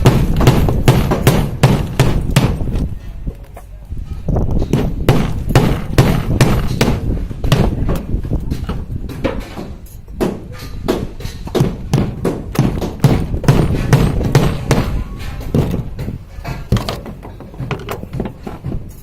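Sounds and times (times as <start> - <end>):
hammer blows: 0.0 - 3.4, 4.0 - 19.0.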